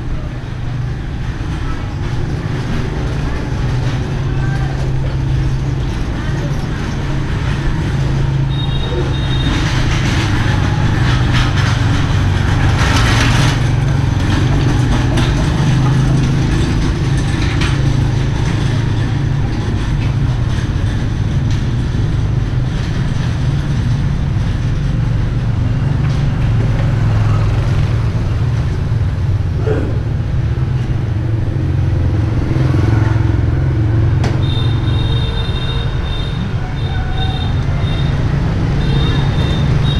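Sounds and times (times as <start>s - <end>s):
city street traffic rumble: 0.0s - 39.9s.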